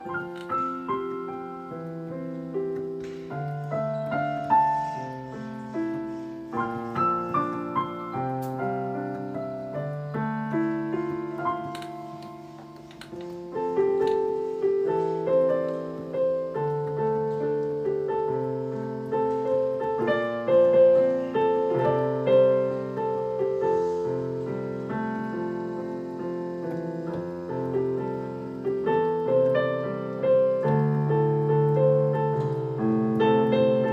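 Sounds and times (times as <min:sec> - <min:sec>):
piano music: 0:00.0 - 0:33.9.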